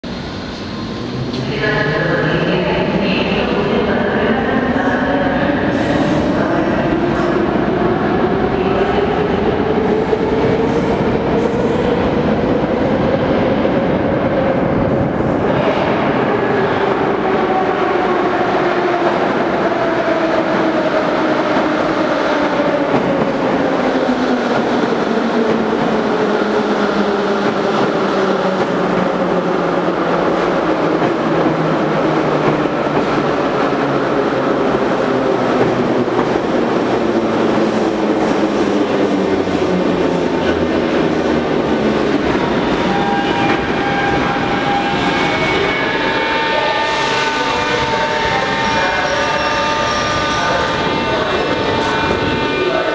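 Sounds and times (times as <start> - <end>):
train wheels on rails: 5.6 - 52.9.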